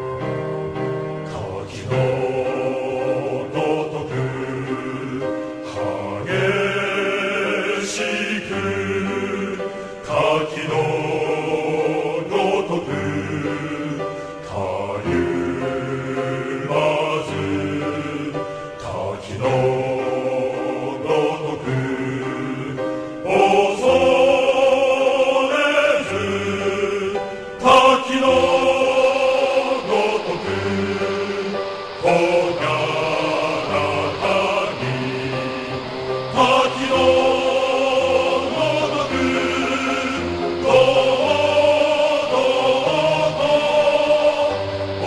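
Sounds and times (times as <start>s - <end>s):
men's chorus singing: 0.0s - 45.0s.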